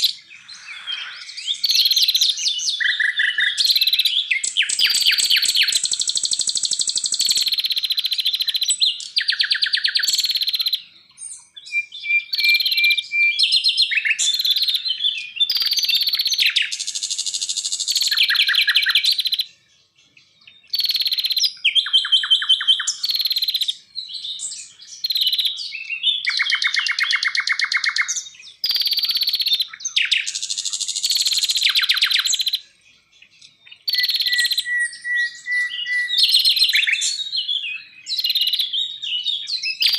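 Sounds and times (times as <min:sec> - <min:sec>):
songbirds singing: 0:00.0 - 0:39.9
thin steady bird whistle: 0:00.0 - 0:39.9.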